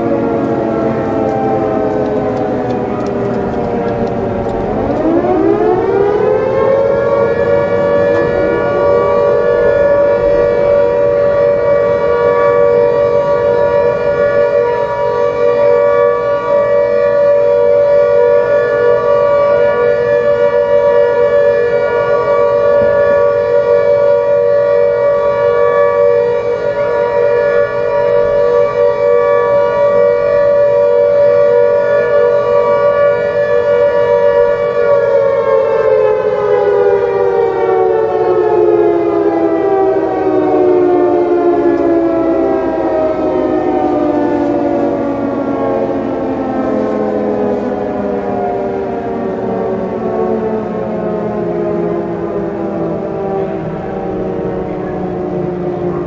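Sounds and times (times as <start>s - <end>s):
air-raid siren wailing: 0.0s - 56.0s.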